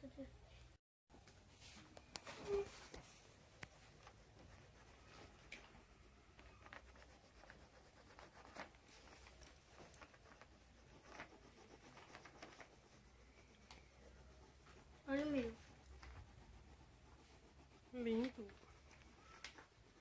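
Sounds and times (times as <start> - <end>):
colouring strokes on paper: 1.1 - 20.0.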